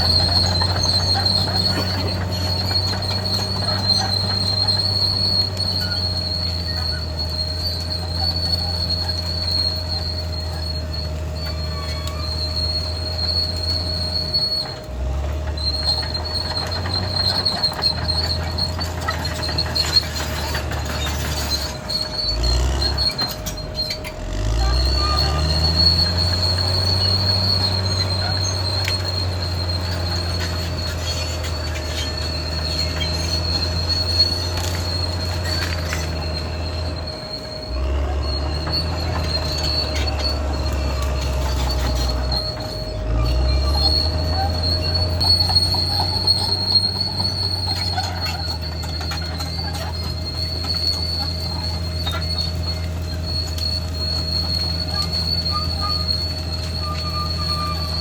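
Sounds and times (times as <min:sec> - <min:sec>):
bulldozer diesel engine: 0:00.0 - 0:58.0
steel tracks squealing: 0:00.0 - 0:58.0.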